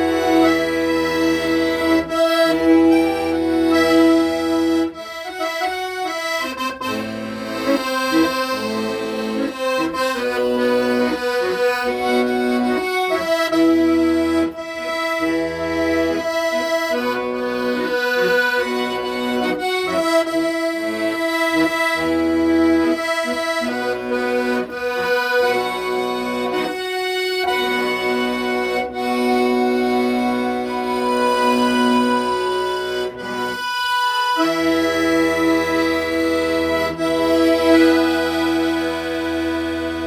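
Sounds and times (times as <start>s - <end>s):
accordion melody: 0.0s - 40.0s.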